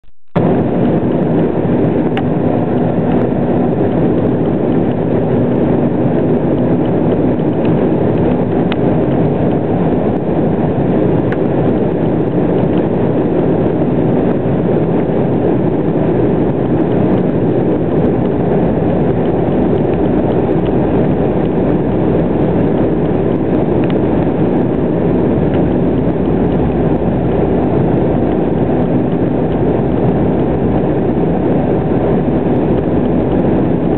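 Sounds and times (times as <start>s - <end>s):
airliner cabin engine noise: 0.0s - 33.9s.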